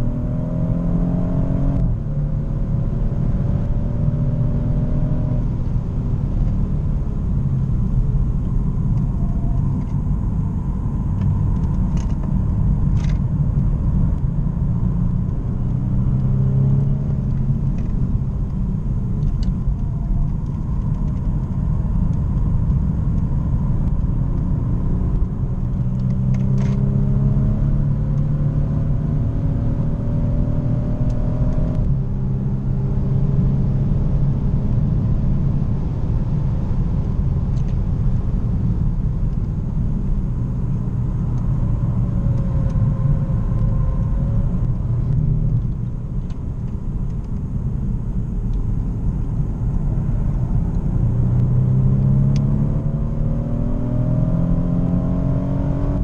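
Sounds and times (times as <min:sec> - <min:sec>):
car engine accelerating: 0:00.0 - 0:56.0
road noise inside car: 0:00.0 - 0:56.0.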